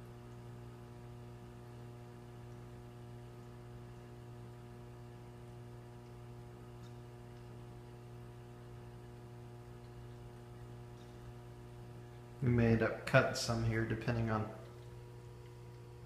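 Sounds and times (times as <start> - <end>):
dishwasher low hum: 0.0 - 16.0.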